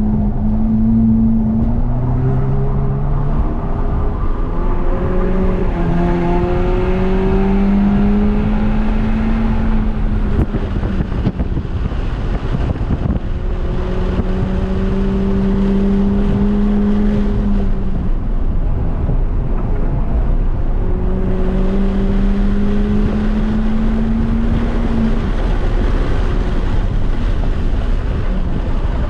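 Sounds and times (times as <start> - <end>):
car engine accelerating: 0.0 - 29.0
road and wind noise: 0.0 - 29.0.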